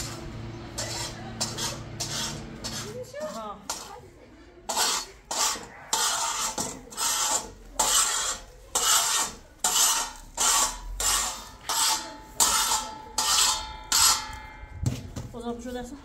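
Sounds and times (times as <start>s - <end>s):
metal spatula scraping griddle: 0.0s - 14.7s.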